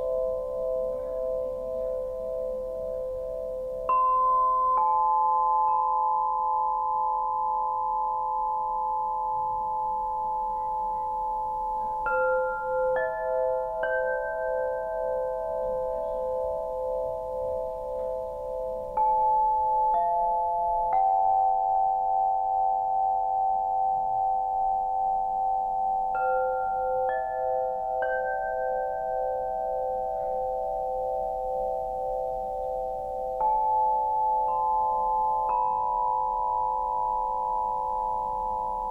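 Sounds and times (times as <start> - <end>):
crystal harp tones ringing: 0.0 - 38.9.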